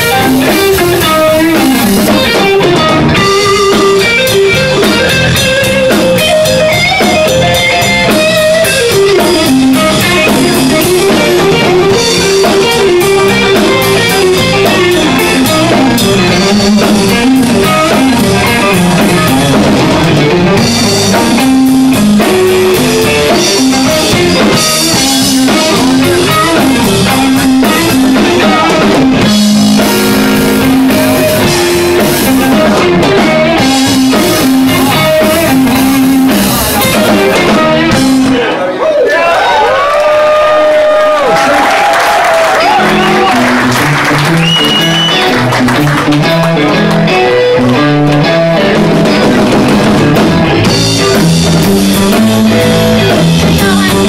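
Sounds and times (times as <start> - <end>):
electric guitar lines: 0.0 - 38.6, 42.3 - 54.0
blues band playing: 0.0 - 54.0.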